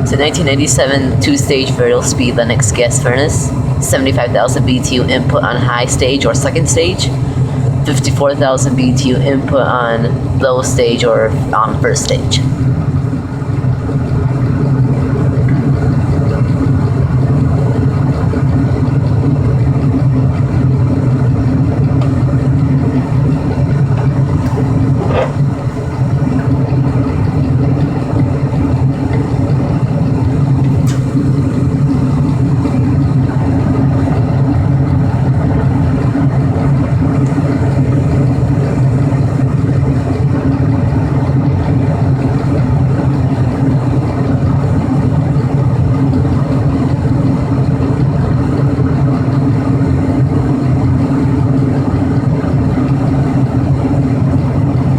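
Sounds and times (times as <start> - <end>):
constant low hum: 0.0 - 54.9
gas furnace blower rushing: 0.0 - 54.9.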